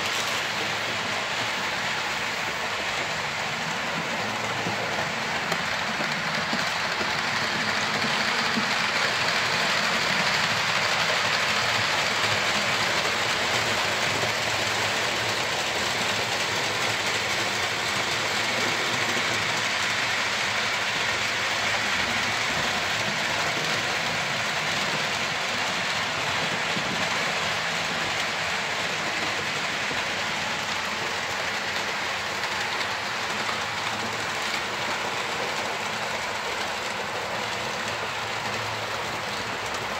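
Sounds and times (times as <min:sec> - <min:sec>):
model trains rolling on rails: 0:00.0 - 0:39.9.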